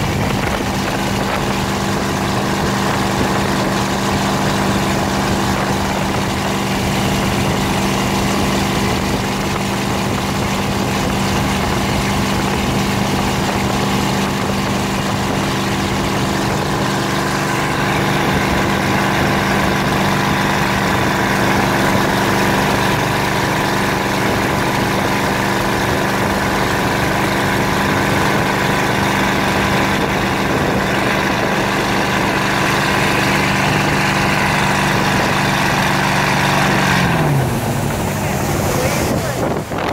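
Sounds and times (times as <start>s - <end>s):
motorboat engine running: 0.0s - 39.9s
rushing water and spray: 0.0s - 39.9s.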